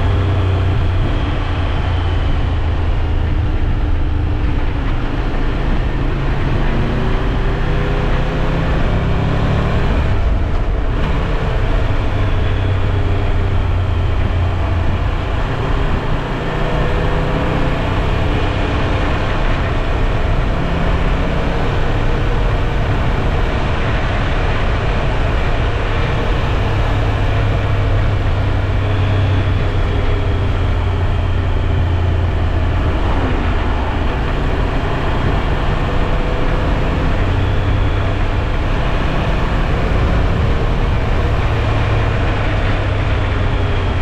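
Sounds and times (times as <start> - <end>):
motorcycle engine running: 0.0 - 44.0
wind rush: 0.0 - 44.0.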